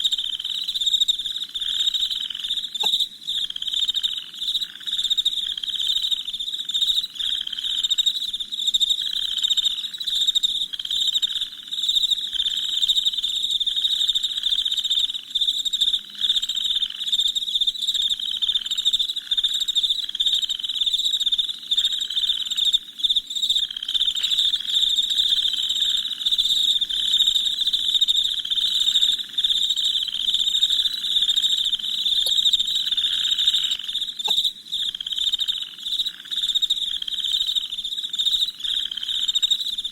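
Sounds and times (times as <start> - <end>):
crickets chirping: 0.0 - 39.9
lower-pitched pulsing insect call: 0.0 - 39.9.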